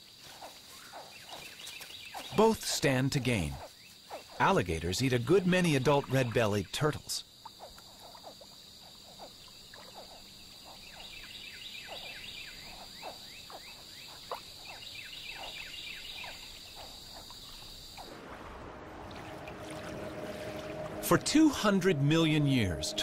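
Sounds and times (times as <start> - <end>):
falling frog calls: 0.2 - 23.0.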